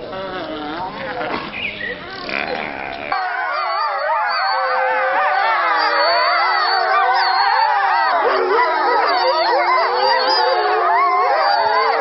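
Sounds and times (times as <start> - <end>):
wolves howling in chorus: 0.0 - 12.0.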